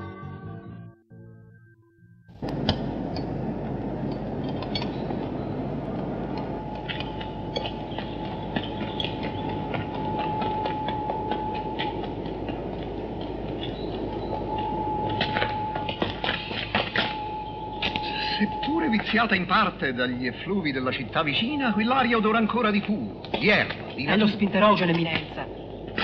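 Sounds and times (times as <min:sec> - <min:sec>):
high whine: 0:01.8 - 0:26.0
vehicle rumbling and rattling: 0:02.4 - 0:26.0.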